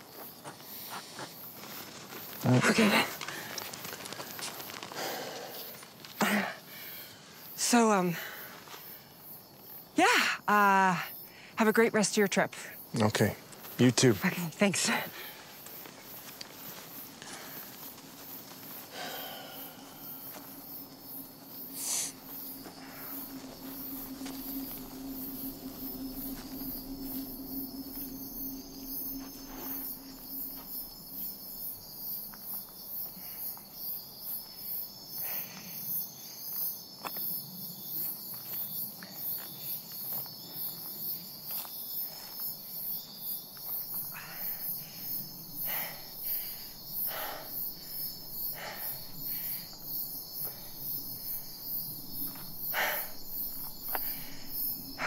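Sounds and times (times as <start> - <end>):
footsteps on dry dirt trail: 0.0 - 6.2, 13.3 - 35.0, 36.1 - 55.0
insects chirping: 0.0 - 55.0.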